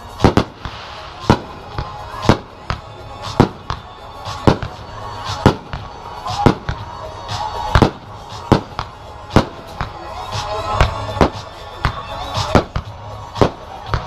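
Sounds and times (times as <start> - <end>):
fireworks bursting: 0.0 - 14.0
music playing: 0.0 - 14.0.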